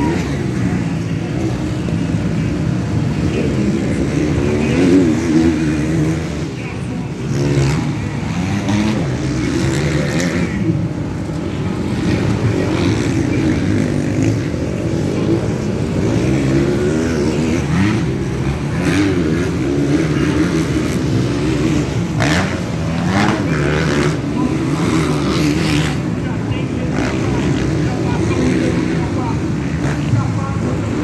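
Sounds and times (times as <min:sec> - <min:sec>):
dirt bike engines racing: 0:00.0 - 0:31.0.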